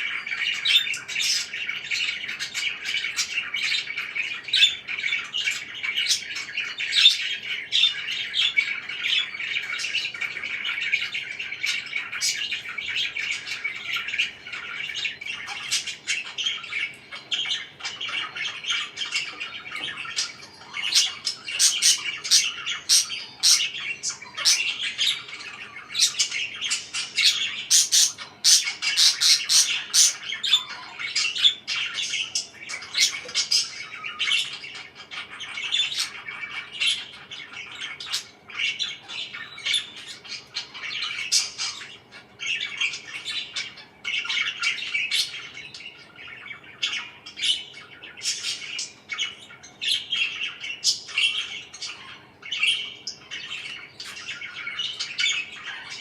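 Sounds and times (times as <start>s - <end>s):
parakeet squawks: 0.0s - 56.0s
parakeets chirping: 0.0s - 56.0s.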